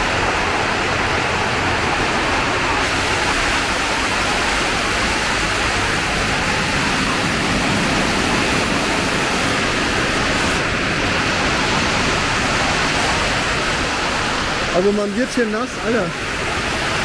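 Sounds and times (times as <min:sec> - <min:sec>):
heavy rain on a metal roof: 0:00.0 - 0:17.0.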